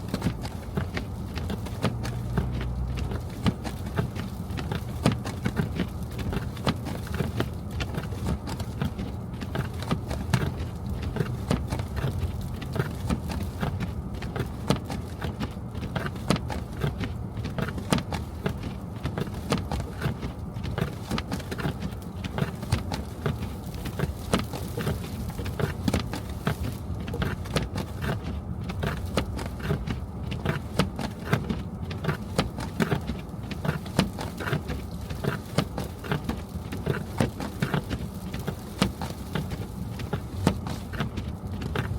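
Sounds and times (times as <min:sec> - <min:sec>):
car road and engine rumble: 0:00.0 - 0:41.9
small irregular clicks and taps: 0:00.0 - 0:41.9.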